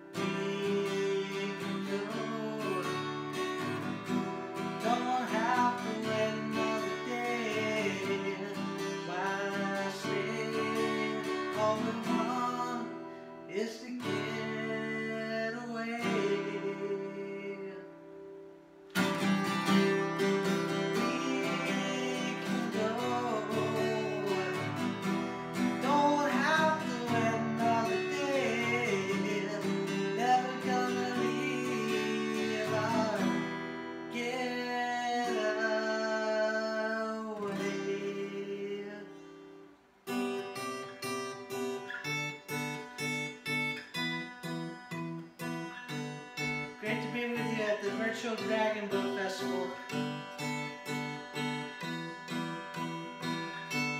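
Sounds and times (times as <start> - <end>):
man singing: 0.0 - 18.2, 19.0 - 39.5, 44.4 - 53.9
acoustic guitar strumming: 0.0 - 53.9.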